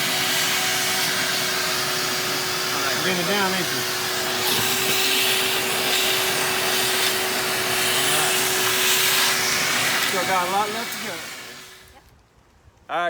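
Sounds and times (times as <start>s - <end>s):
shop vac motor whine: 0.0s - 12.0s.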